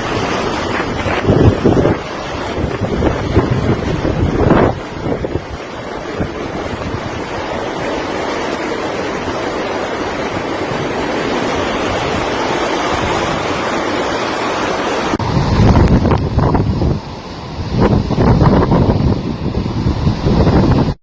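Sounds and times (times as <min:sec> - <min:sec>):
hurricane wind: 0:00.0 - 0:21.0
surf: 0:00.0 - 0:21.0.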